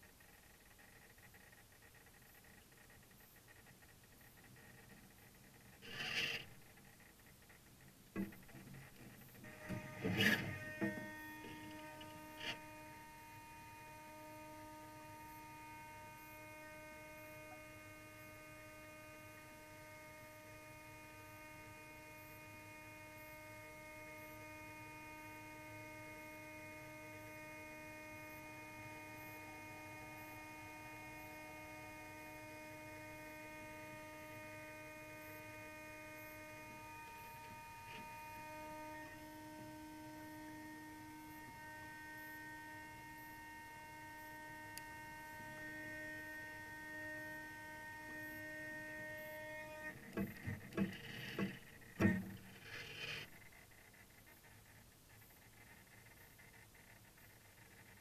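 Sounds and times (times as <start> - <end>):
electrical hum and whine: 0.0 - 58.0.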